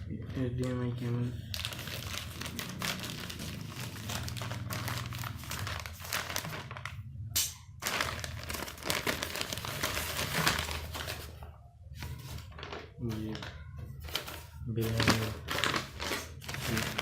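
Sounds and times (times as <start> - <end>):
plastic packaging crinkling: 0.6 - 7.1, 7.8 - 17.0.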